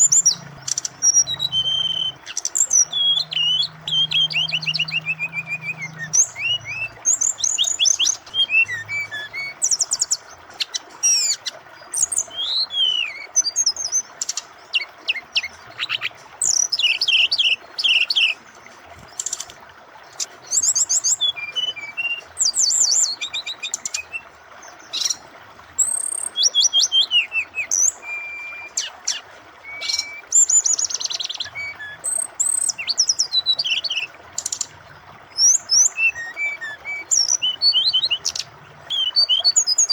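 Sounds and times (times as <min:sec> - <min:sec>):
bird singing chirps and trills: 0:00.0 - 0:39.9
flowing water rushing: 0:00.0 - 0:39.9.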